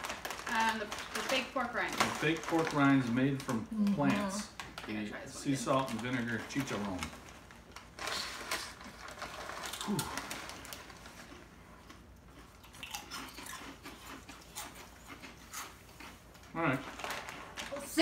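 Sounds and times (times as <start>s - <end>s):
chip bag crinkling: 0.0s - 18.0s
crunchy snacks being chewed: 0.0s - 18.0s.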